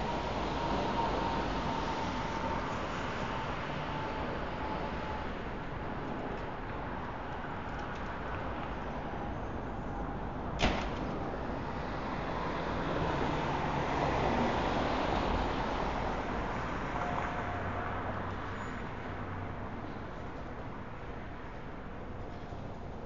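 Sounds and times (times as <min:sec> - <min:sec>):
city street traffic: 0:00.0 - 0:23.0.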